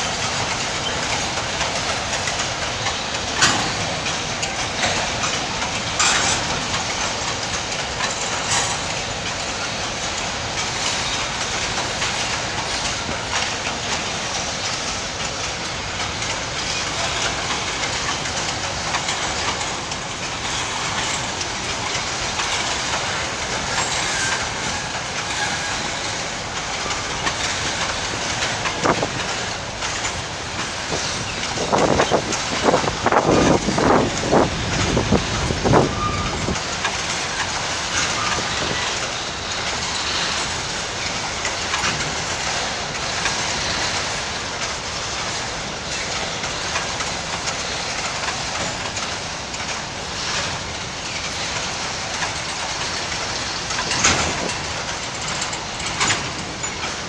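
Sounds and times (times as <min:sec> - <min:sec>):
train wheels clattering over rails: 0:00.0 - 0:57.0
knocks and clanks: 0:00.2 - 0:09.7, 0:16.0 - 0:57.0.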